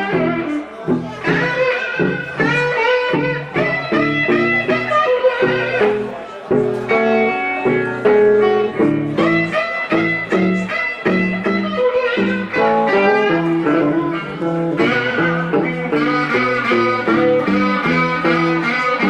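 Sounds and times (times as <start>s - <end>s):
blues band playing live: 0.0s - 19.0s
electric guitar single-note lines: 0.0s - 19.0s.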